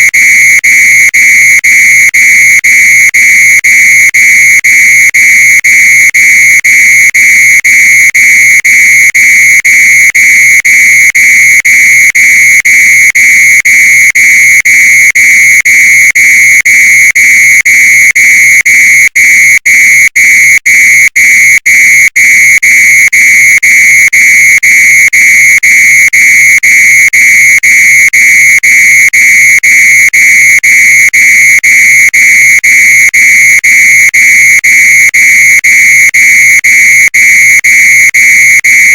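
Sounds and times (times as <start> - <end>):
shrill fire alarm tone: 0.0 - 38.9.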